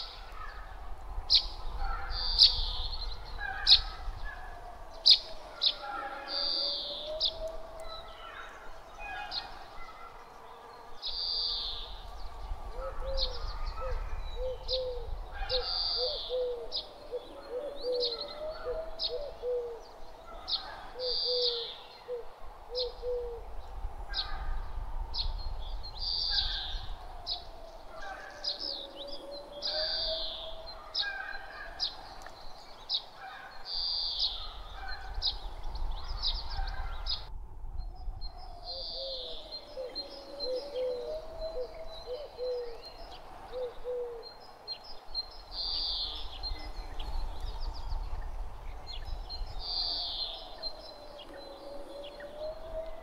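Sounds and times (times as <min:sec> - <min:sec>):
light breeze rumble: 0:00.0 - 0:53.0.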